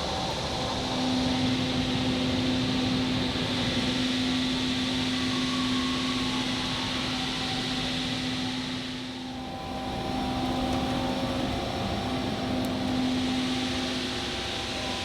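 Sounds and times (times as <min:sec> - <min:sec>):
industrial machinery humming: 0:00.0 - 0:15.0.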